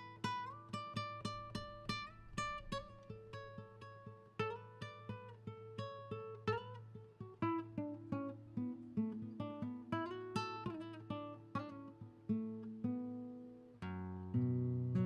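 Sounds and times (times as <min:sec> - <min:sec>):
acoustic guitar picking notes: 0:00.0 - 0:15.0.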